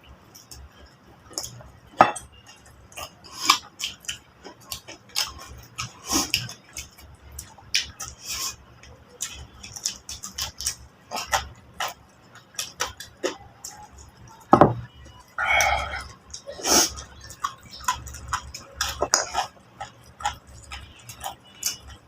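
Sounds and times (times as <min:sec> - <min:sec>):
wet chewing and lip-smacking: 0:02.3 - 0:22.0.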